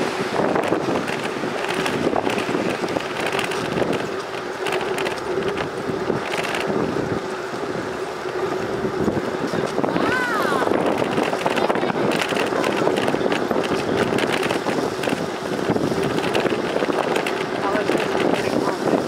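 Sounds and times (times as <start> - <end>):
bicycle tyres on pavement: 0.0 - 19.0
wind buffeting microphone: 0.0 - 19.0.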